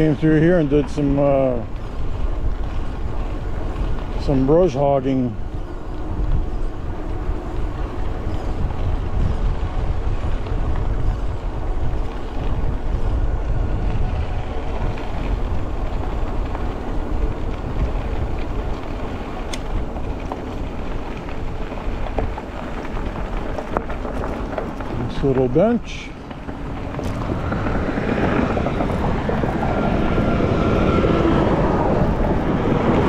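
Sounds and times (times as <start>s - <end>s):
bike tyres rumbling on trail: 0.0s - 33.0s
wind rushing on microphone: 0.0s - 33.0s.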